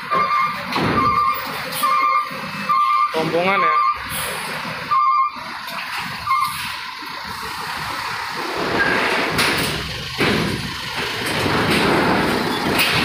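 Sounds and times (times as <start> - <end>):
heavy vehicle rumbling over steel ramp: 0.0 - 13.0.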